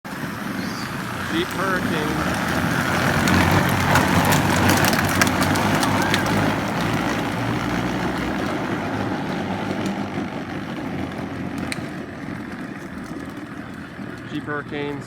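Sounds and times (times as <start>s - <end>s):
wheel and body rattle: 0.1s - 15.0s.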